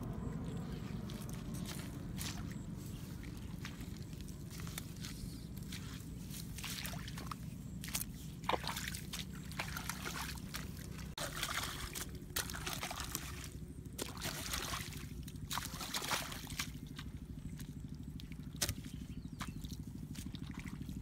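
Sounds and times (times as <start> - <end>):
steady low hum: 0.0 - 21.0
water sloshing and splashing: 0.0 - 21.0.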